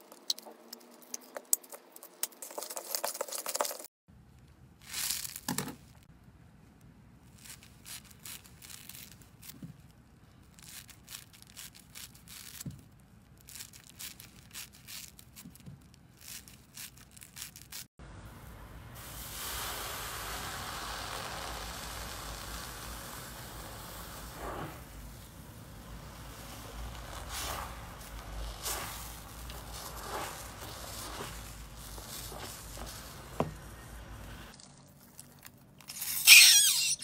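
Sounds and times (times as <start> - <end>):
foamy slime crackling: 7.2 - 37.0.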